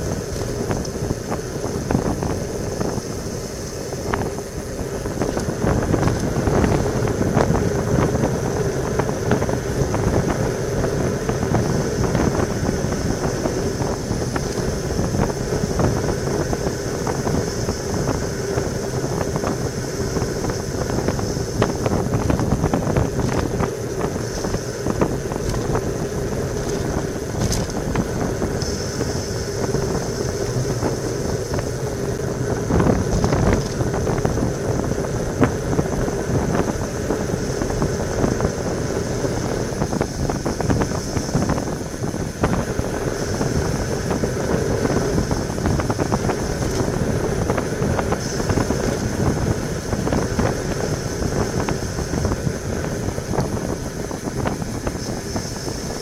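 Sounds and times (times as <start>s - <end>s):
bike rattles: 0.0s - 56.0s
bike tyre hum: 0.0s - 56.0s
wind on microphone: 0.0s - 56.0s.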